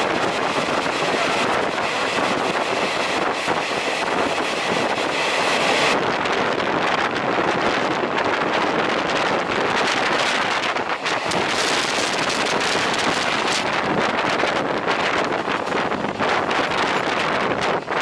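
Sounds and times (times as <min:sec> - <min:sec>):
train wheels on rails: 0:00.0 - 0:18.0
wind through open windows: 0:00.0 - 0:18.0.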